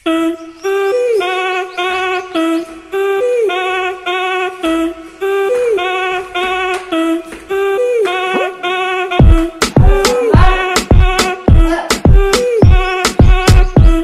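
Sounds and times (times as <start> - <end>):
looping melody of wavering notes: 0.0 - 11.7.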